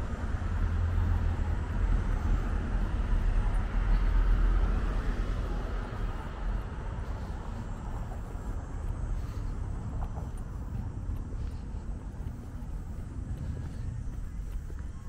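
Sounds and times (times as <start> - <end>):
car passing: 0.0 - 15.0
traffic background: 0.0 - 15.0.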